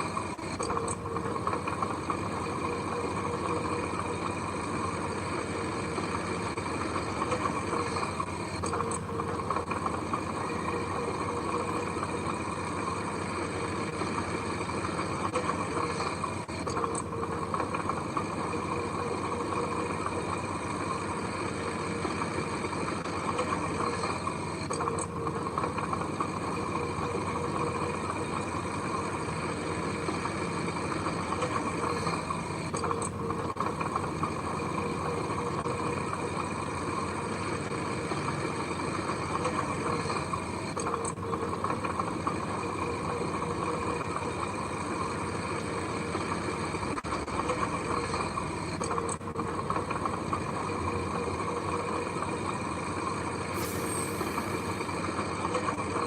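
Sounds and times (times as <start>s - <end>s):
heavy machinery engine running: 0.0s - 56.0s.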